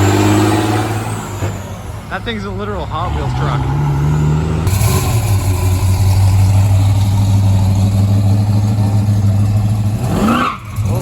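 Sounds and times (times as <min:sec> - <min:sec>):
loud truck engine running: 0:00.0 - 0:11.0.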